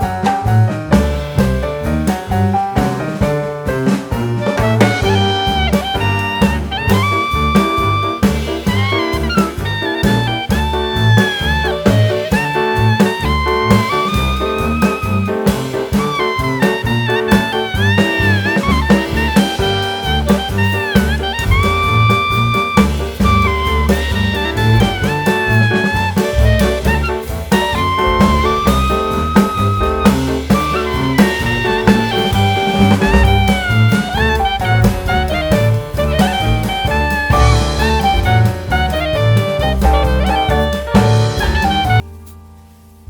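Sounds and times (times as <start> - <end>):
jazz music with saxophone: 0.0 - 43.0.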